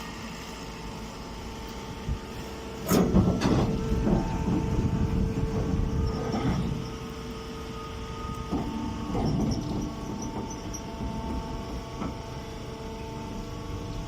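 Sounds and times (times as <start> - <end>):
baling machine motor hum: 0.1 - 14.0
machine rattling rumble: 0.8 - 14.0.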